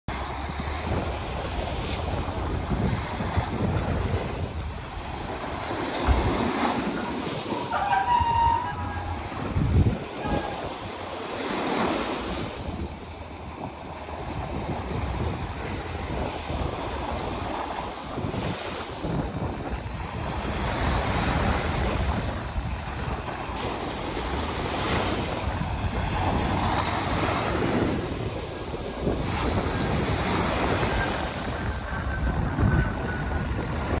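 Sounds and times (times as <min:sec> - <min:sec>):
surf washing up a beach: 0:00.1 - 0:34.0
wind buffeting microphone: 0:00.1 - 0:34.0.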